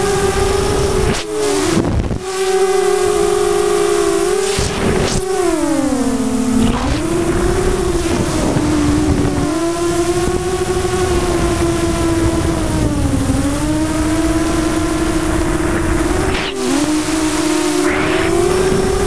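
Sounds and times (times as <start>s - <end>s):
wind rush on microphone: 0.0s - 2.3s, 4.3s - 19.0s
drone motors whining: 0.0s - 19.0s.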